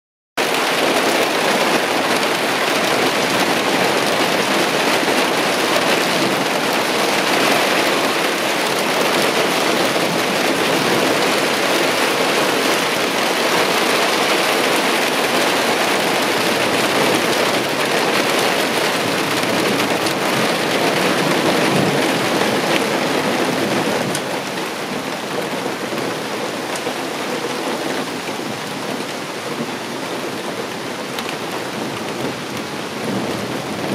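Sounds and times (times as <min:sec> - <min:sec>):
heavy rain on surfaces: 0:00.4 - 0:33.9.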